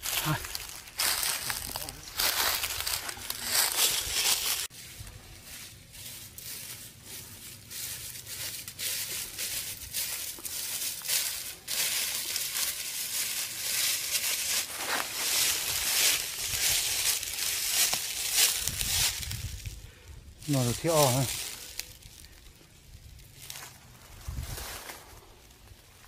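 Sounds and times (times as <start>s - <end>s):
footsteps crunching through leaves: 0.0s - 26.0s.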